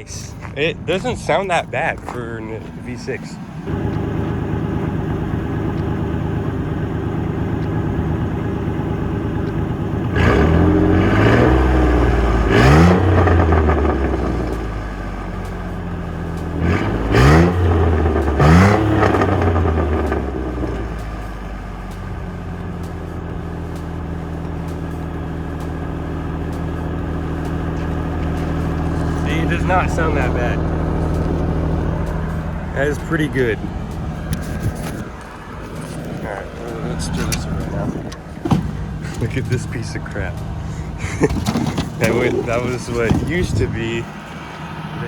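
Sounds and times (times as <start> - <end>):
truck engine idling and revving: 0.0 - 45.0.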